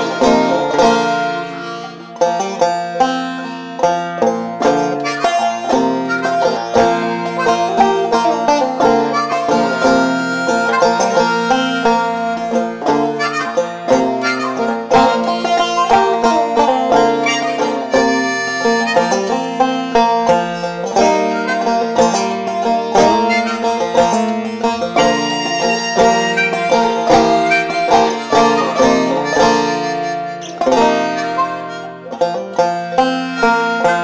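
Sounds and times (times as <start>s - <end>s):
banjo picking folk tune: 0.0s - 34.0s
harmonica: 0.0s - 34.0s.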